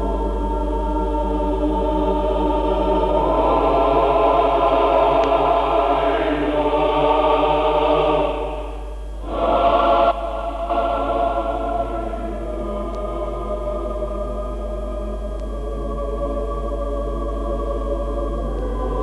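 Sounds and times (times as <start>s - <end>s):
choral music: 0.0s - 19.0s.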